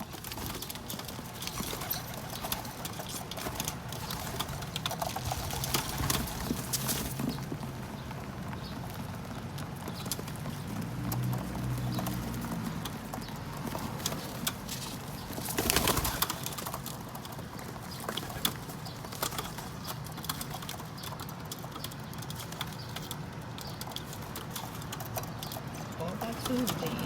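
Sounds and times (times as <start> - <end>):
beaks pecking seeds: 0.0 - 27.0
pigeons cooing: 0.0 - 27.0.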